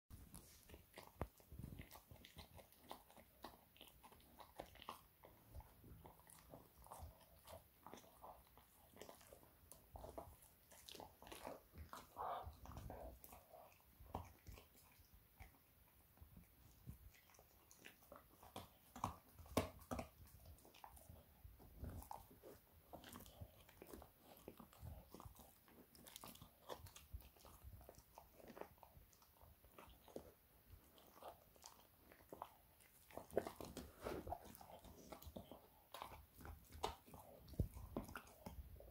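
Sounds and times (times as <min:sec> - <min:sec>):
dog chewing and crunching: 0:00.1 - 0:38.9.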